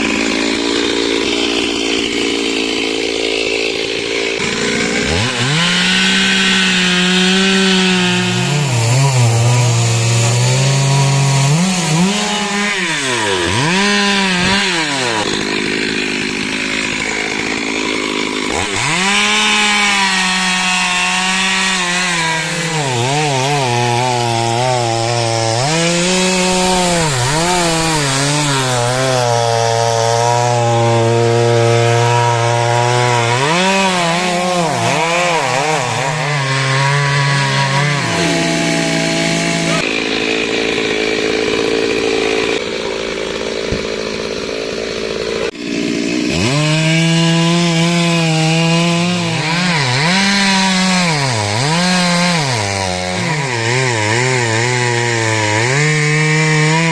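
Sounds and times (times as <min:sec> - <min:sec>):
chainsaw cutting through wood: 0:00.0 - 0:56.9.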